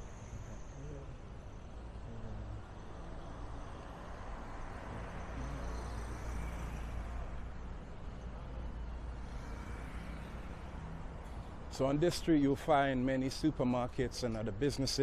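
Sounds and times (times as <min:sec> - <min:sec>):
passing cars and motorbikes: 0:00.0 - 0:15.0.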